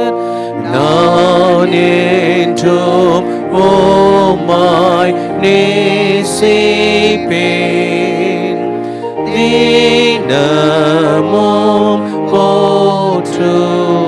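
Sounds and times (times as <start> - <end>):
instrumental accompaniment: 0.0 - 14.0
man singing a hymn: 0.0 - 14.0.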